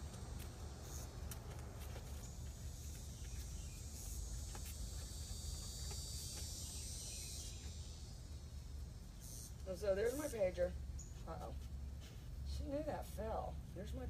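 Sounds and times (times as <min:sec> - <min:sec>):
constant low rumble: 0:00.0 - 0:14.0
insects buzzing: 0:00.0 - 0:14.0.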